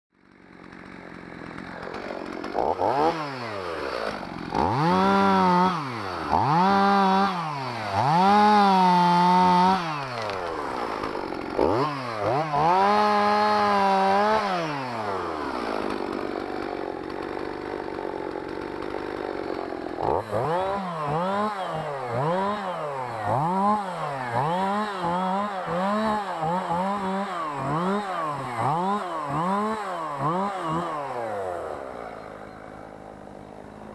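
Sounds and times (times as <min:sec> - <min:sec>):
chainsaw revving: 0:00.2 - 0:33.9.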